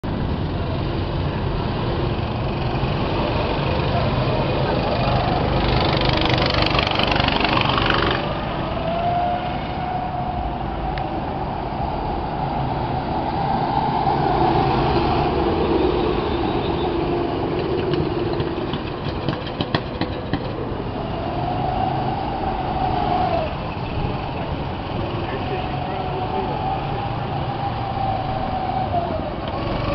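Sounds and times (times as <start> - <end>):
go-kart engines driving by: 0.1 - 29.9.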